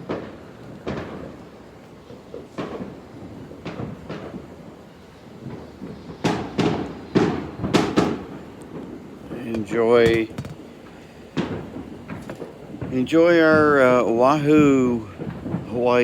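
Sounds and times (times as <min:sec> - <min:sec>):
fireworks explosions: 0:00.0 - 0:04.6, 0:05.4 - 0:16.0.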